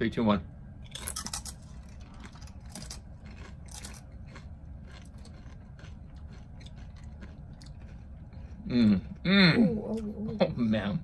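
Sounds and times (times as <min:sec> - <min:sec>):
people chewing crunchy chips: 0:00.9 - 0:10.2.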